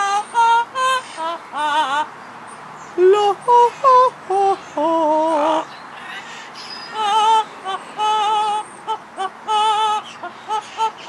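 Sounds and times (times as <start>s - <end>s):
parrot singing: 0.0s - 2.1s, 2.8s - 11.0s.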